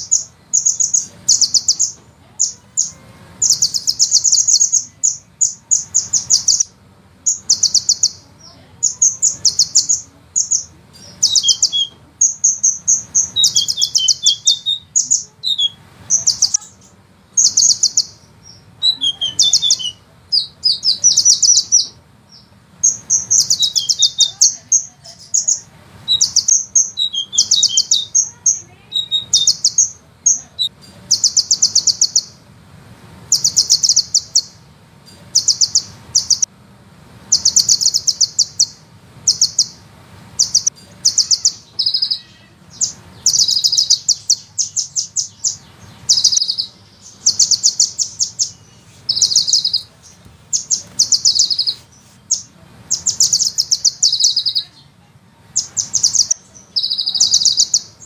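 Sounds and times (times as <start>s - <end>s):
bird singing rattling trills: 0.0s - 32.4s, 33.3s - 36.5s, 37.2s - 54.9s, 55.5s - 58.0s.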